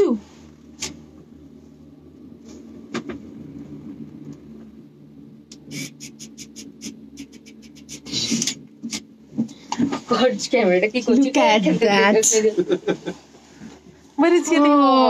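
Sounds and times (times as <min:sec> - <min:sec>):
low hum in cable car cabin: 0:00.0 - 0:15.0.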